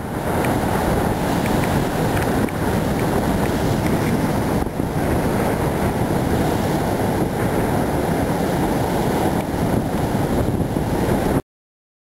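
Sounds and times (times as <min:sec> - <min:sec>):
surf breaking on rocks: 0:00.0 - 0:11.4
wind buffeting microphone: 0:00.0 - 0:11.4.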